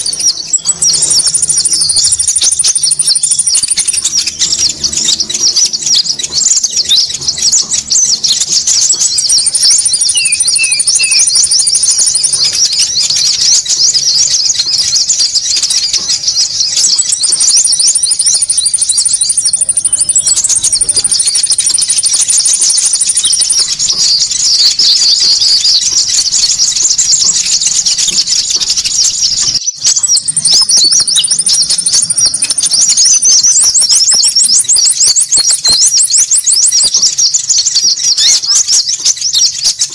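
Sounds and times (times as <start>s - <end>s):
birds chattering: 0.0s - 39.9s
high bird trill: 0.0s - 39.9s.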